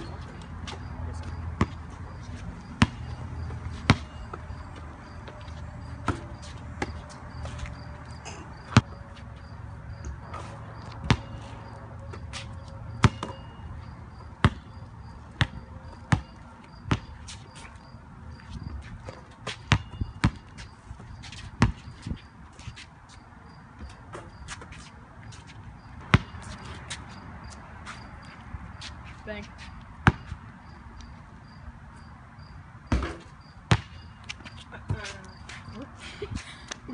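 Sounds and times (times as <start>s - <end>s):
basketball bouncing on concrete: 0.0s - 22.8s, 23.8s - 30.8s, 32.8s - 35.8s.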